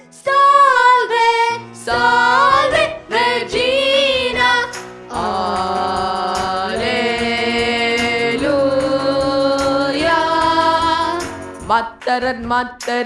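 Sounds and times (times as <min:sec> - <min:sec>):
woman and children singing: 0:00.0 - 0:13.0.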